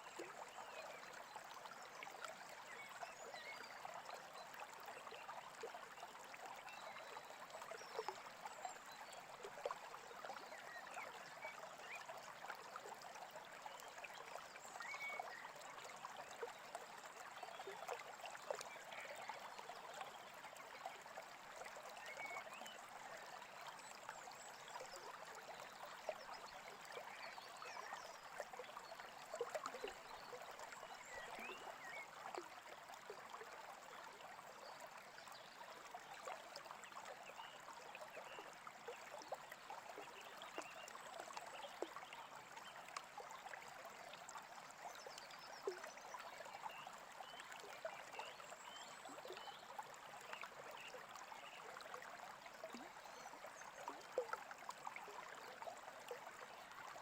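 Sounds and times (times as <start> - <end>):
brook trickling: 0.0 - 57.0.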